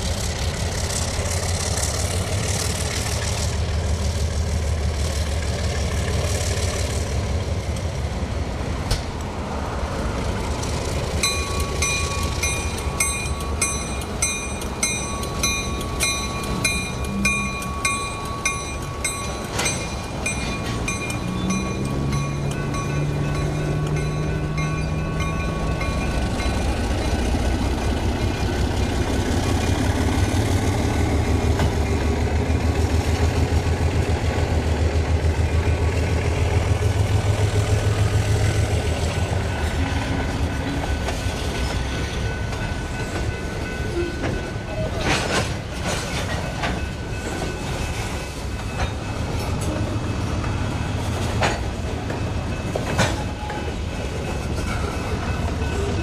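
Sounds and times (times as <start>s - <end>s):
diesel locomotive engine drone: 0.0s - 56.0s
wheels clicking over rail joints: 10.3s - 56.0s.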